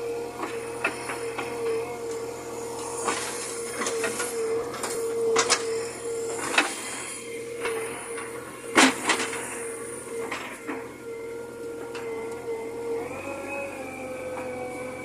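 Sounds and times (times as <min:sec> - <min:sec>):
backhoe loader engine droning: 0:00.0 - 0:15.0.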